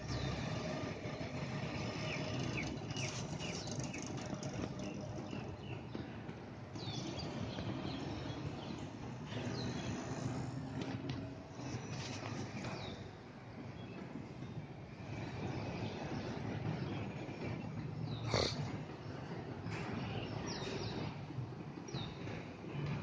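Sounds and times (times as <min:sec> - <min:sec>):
birds chirping: 0:00.0 - 0:23.0
distant city traffic rumble: 0:00.0 - 0:23.0.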